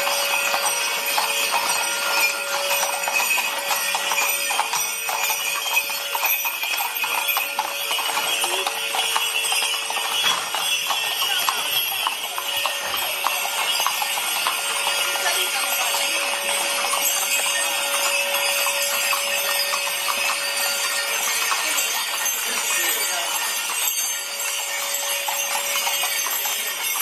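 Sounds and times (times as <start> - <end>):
bells jingling: 0.0 - 27.0
hooves clip-clopping on pavement: 0.0 - 27.0.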